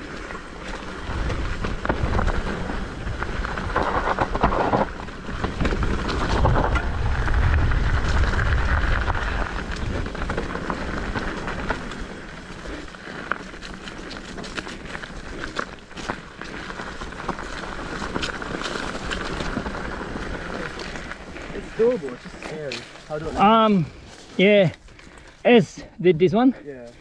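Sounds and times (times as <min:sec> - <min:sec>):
wind rumble on microphone: 0:00.0 - 0:22.2
bike frame and chain rattle: 0:00.0 - 0:25.4
bike tyres crunching on dirt: 0:00.0 - 0:27.0.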